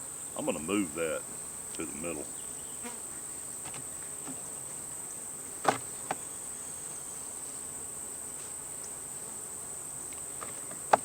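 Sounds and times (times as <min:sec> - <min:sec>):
insects humming: 0:00.0 - 0:11.0.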